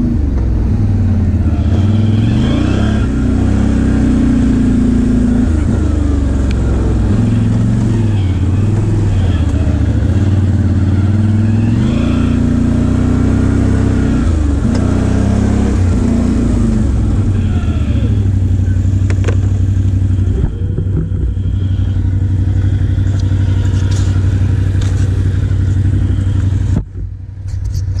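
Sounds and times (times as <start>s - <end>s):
engine revving: 0.0s - 26.9s.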